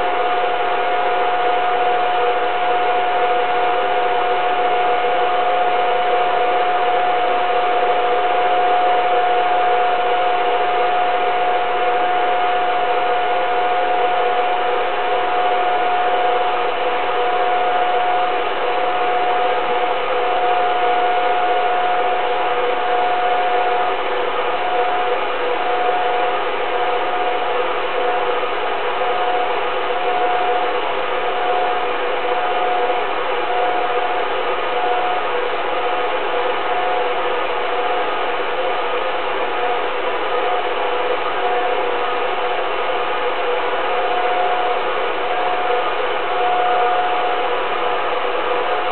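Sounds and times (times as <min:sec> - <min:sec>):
high hum tone: 0:00.0 - 0:48.9.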